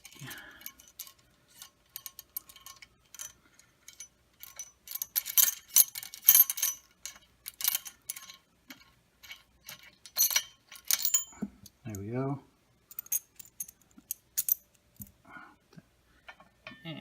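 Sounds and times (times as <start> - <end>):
metal parts clinking and rattling: 0.0 - 12.1, 12.9 - 14.7.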